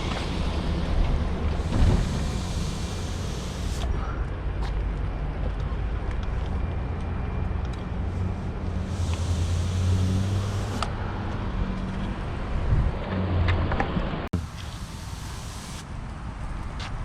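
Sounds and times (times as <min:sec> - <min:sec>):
motor vehicle engine running: 0:00.0 - 0:16.8.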